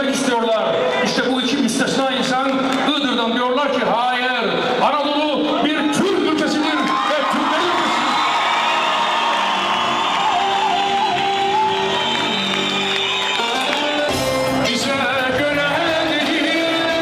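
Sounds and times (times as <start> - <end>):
crowd shouting and cheering: 0.0 - 17.0.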